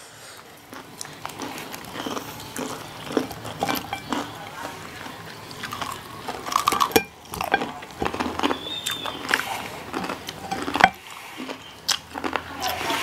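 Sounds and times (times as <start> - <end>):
crunching bites and chewing: 0.7 - 12.8.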